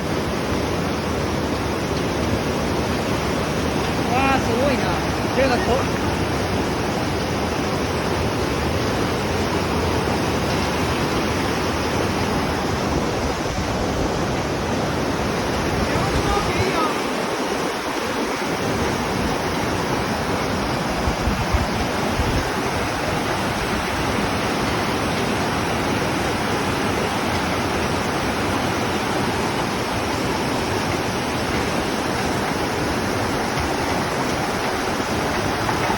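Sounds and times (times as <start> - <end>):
water rushing heavily: 0.0 - 35.9.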